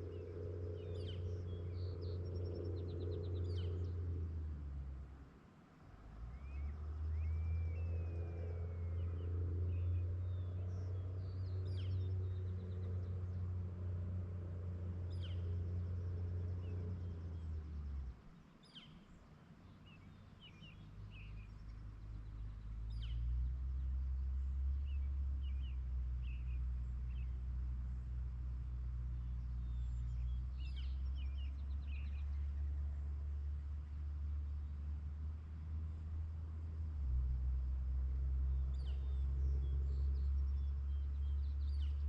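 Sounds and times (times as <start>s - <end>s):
small birds chirping: 0.0s - 4.0s, 6.3s - 13.7s, 14.9s - 42.0s.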